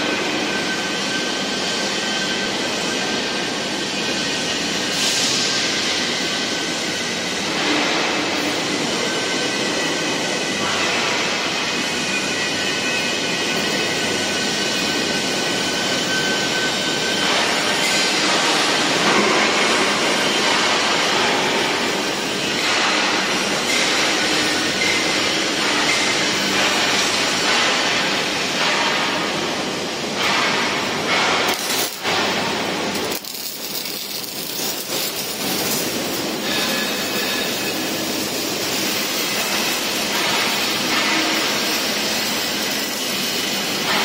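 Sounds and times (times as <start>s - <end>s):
loud machinery noise: 0.0s - 44.0s.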